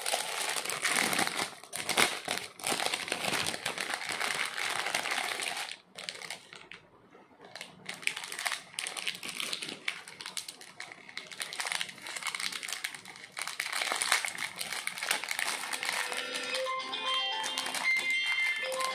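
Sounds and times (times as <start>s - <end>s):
plastic packets crinkling: 0.0s - 6.8s, 7.5s - 18.9s.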